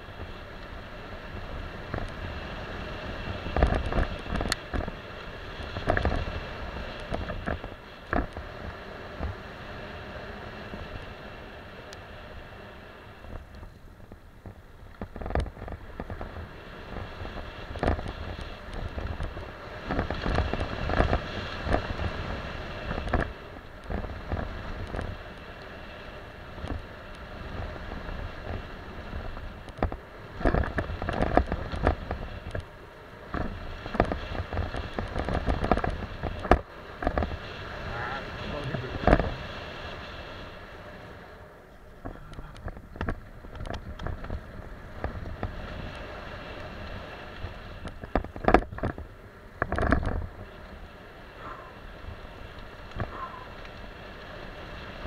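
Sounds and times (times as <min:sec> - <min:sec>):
bike knocking and rattling: 0:00.0 - 0:09.4, 0:13.3 - 0:37.6, 0:41.7 - 0:55.0
bike tyres rolling over dirt: 0:00.0 - 0:55.0.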